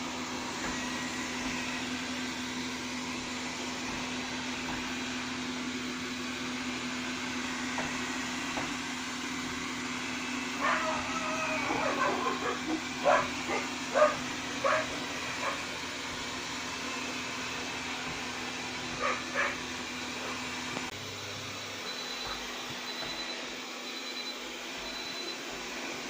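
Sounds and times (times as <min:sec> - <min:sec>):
robot vacuum humming: 0:00.0 - 0:26.0.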